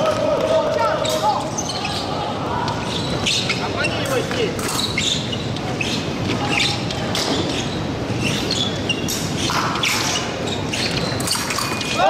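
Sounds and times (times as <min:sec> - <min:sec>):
background murmur: 0:00.0 - 0:12.0.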